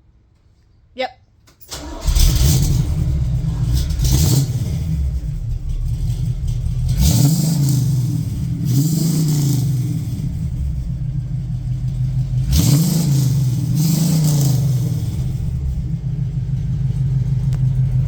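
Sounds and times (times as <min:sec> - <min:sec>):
car engine starting and revving: 0:01.7 - 0:18.0.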